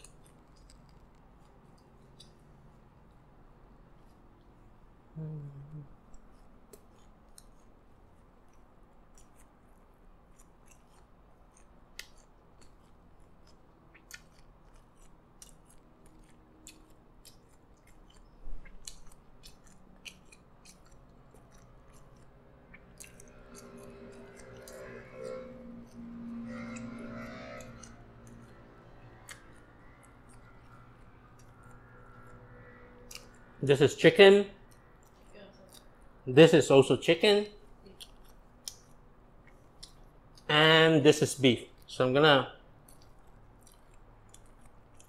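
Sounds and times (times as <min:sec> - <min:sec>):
crunchy chewing: 0:00.0 - 0:04.8, 0:05.8 - 0:33.7, 0:34.5 - 0:36.2, 0:37.6 - 0:40.5, 0:42.6 - 0:45.0.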